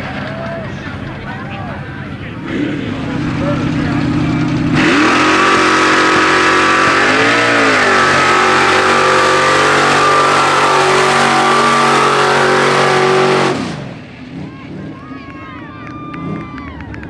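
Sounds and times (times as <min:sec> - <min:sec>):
truck engine revving high: 0:02.3 - 0:17.0.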